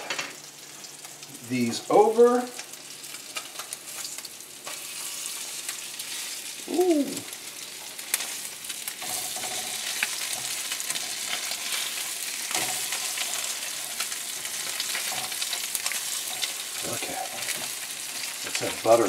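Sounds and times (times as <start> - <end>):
food sizzling in a skillet: 0.0 - 19.0.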